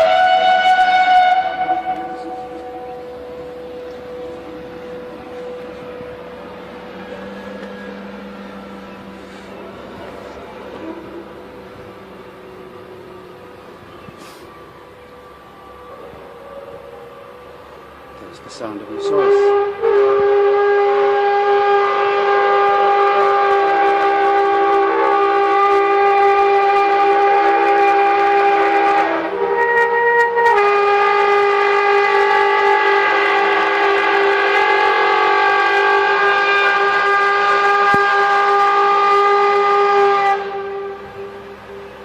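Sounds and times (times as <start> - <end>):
bulldozer scraping concrete drone: 0.0 - 42.0.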